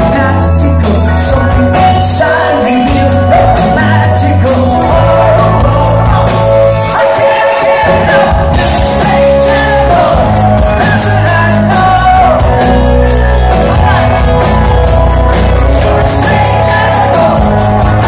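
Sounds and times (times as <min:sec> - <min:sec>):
live rock band playing: 0:00.0 - 0:18.0
male lead vocalist singing: 0:00.0 - 0:18.0.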